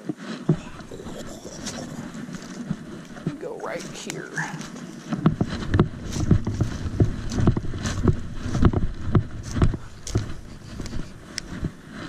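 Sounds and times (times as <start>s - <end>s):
footsteps on rocks: 0.1s - 12.0s.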